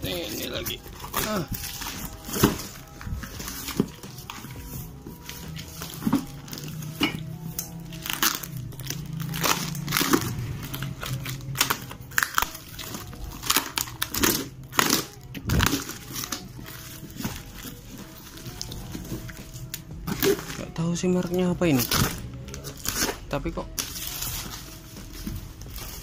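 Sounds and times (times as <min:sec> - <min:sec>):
faint background music: 0:00.0 - 0:26.0.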